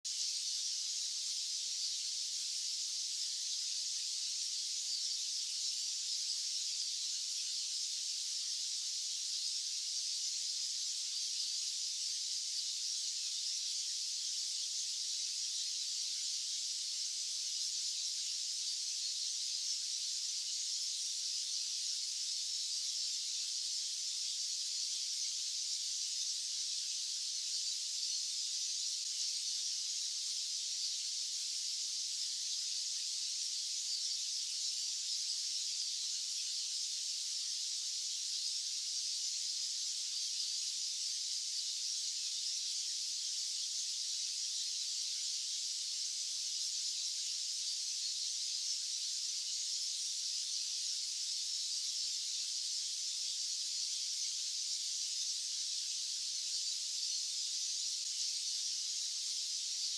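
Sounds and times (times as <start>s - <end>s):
high-pitched white noise hiss: 0.1s - 59.9s.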